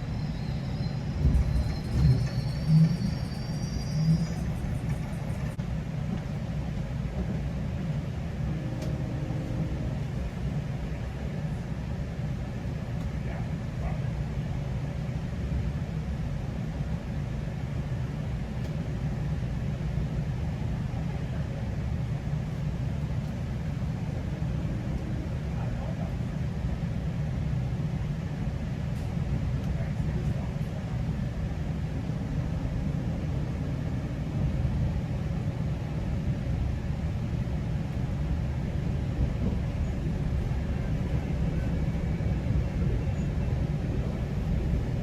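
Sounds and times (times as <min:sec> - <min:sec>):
train rumbling on track: 0:00.0 - 0:45.0.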